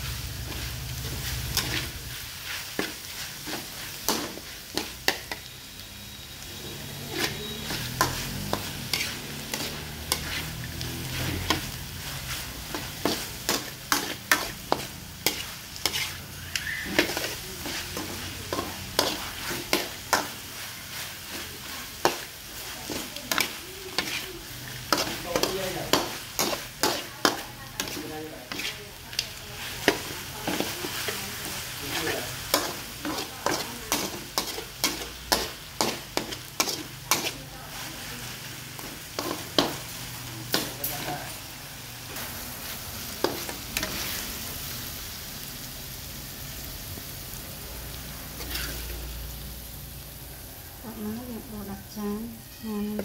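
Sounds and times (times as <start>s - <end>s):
metal spatula scraping wok: 0.0s - 44.6s, 48.2s - 49.7s
food sizzling: 0.0s - 53.0s.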